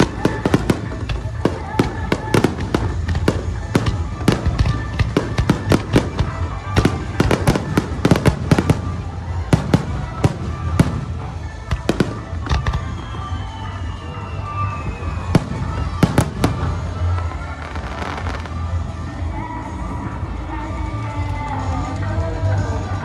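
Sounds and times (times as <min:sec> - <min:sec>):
fireworks bursting: 0:00.0 - 0:19.1.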